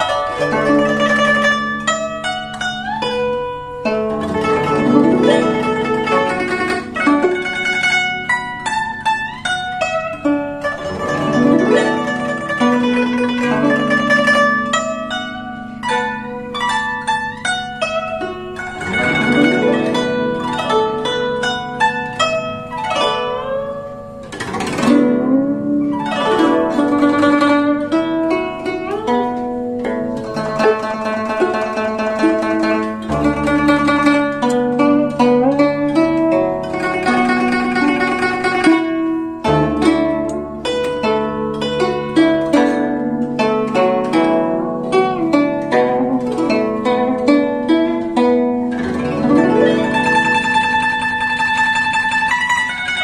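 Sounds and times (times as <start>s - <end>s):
plucked zither notes: 0.0s - 53.0s
zither glissando: 0.0s - 53.0s.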